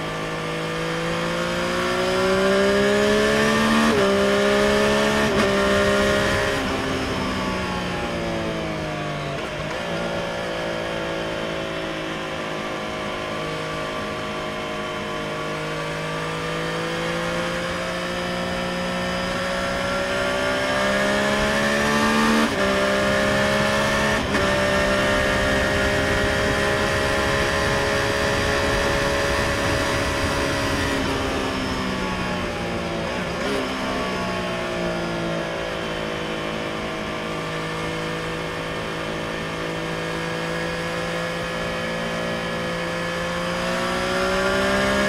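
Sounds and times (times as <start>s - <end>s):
motorcycle engine: 0.0s - 45.0s
wind and road noise: 0.0s - 45.0s.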